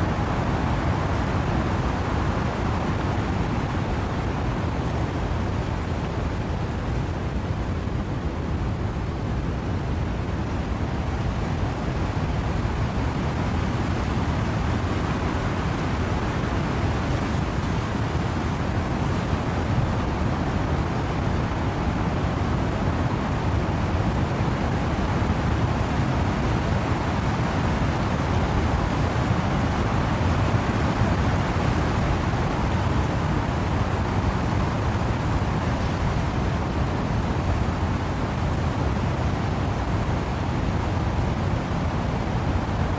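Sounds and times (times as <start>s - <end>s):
rain: 0.0s - 42.9s
wind rushing through trees: 0.0s - 42.9s.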